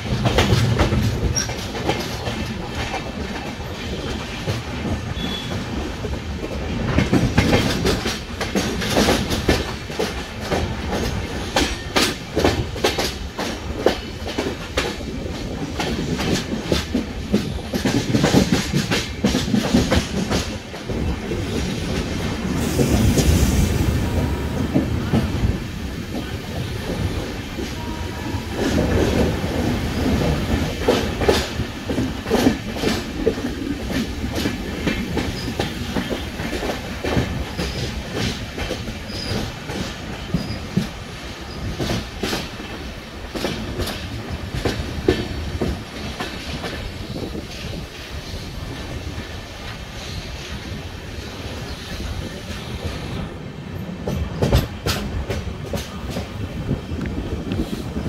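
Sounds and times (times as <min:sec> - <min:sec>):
train rumble: 0:00.0 - 0:58.0
train wheels clattering: 0:00.0 - 0:58.0.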